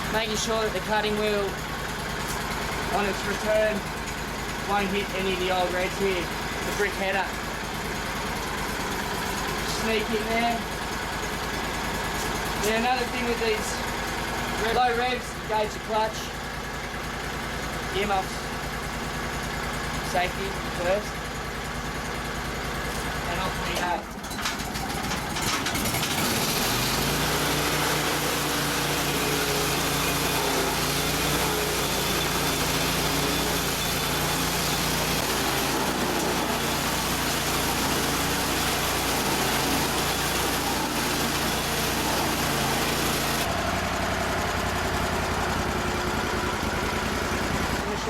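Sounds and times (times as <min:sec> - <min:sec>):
cutting wheel grinding stump: 0:00.0 - 0:48.0
stump grinder engine revving: 0:00.0 - 0:48.0.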